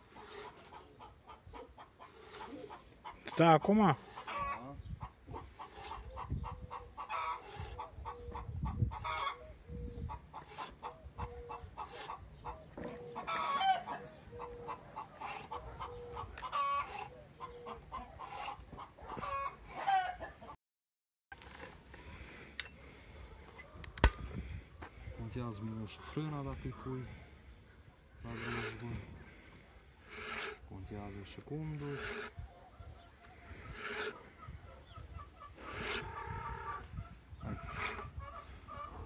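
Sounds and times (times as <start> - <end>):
chickens clucking: 0.0 - 20.6, 22.2 - 39.0.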